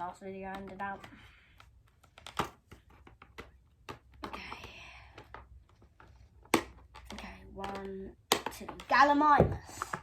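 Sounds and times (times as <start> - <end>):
plastic toys clicking and tapping: 0.0 - 10.0.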